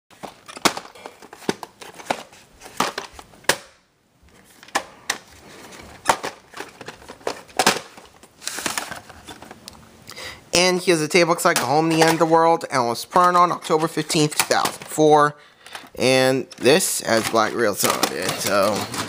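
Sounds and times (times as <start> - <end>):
crinkling: 0.1 - 3.5, 4.3 - 9.8, 11.4 - 19.0.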